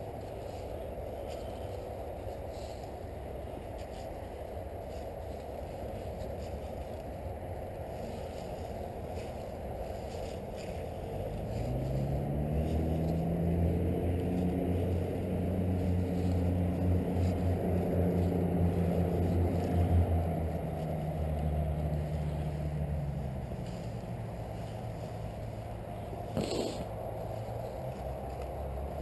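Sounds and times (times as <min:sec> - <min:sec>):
passing vehicle engine: 0:03.8 - 0:29.0.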